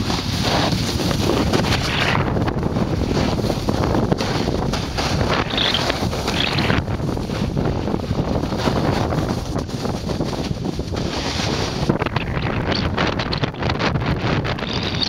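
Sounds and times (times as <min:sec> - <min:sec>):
skis sliding on packed snow: 0:00.0 - 0:12.1
wind buffeting microphone: 0:00.0 - 0:15.0.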